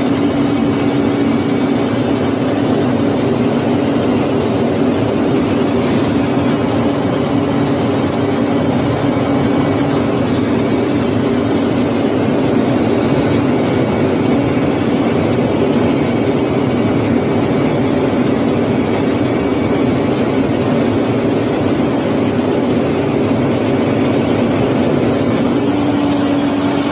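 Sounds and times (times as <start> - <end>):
truck machinery running: 0.0 - 26.9.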